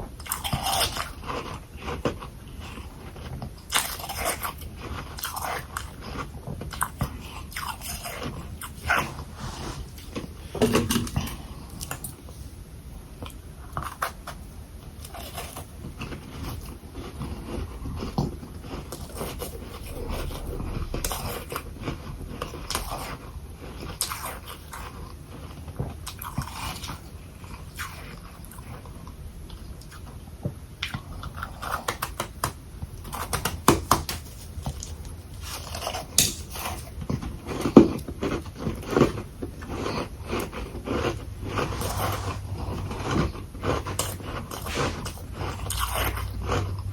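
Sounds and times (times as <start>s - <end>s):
chewing crunchy frost: 0.1s - 12.4s, 13.2s - 46.9s.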